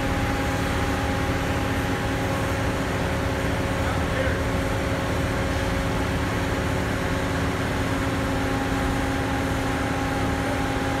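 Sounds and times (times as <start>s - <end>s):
steady machine whine: 0.0s - 11.0s
vibratory pile driver rumble: 0.0s - 11.0s.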